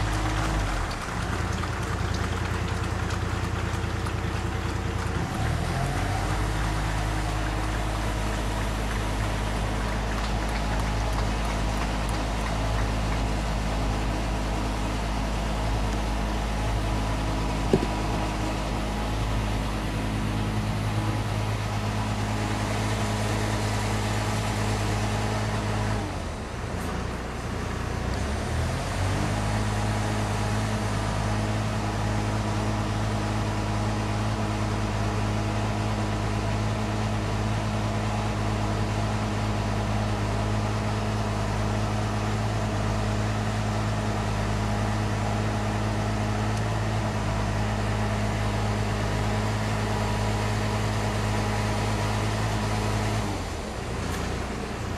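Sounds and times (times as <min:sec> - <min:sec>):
engine humming: 0:00.0 - 0:54.9.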